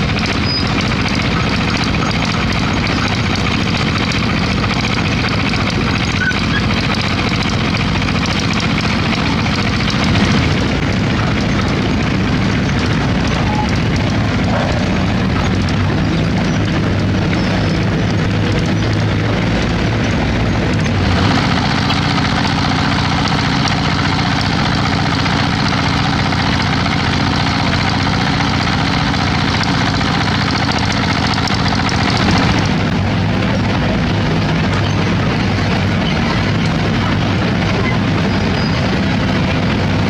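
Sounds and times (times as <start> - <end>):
diesel machinery engine running: 0.0 - 40.0.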